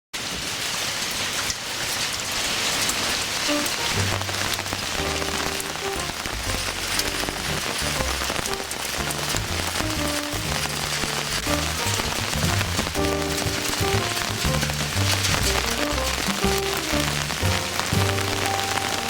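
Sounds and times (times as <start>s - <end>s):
hailstones striking hard surfaces: 0.2s - 19.0s
background music with low notes: 3.5s - 19.0s.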